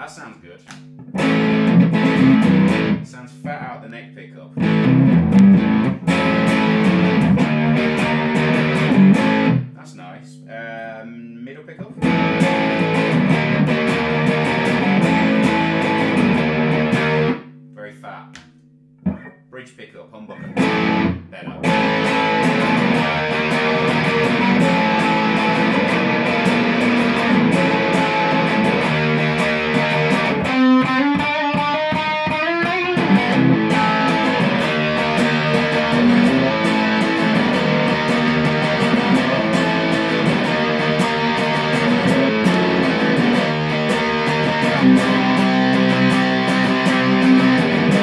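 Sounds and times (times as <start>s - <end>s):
fuzzed electric guitar: 0.0s - 19.6s, 20.3s - 48.0s.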